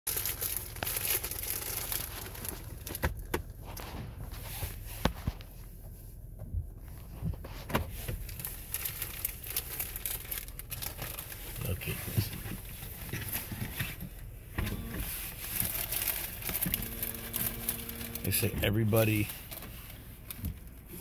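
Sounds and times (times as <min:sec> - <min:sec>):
low steady rumble: 0:00.1 - 0:21.0.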